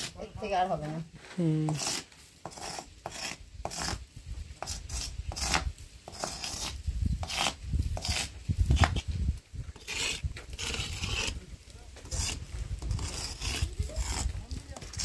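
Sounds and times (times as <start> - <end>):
stone scraping on stone wall: 1.7 - 15.0.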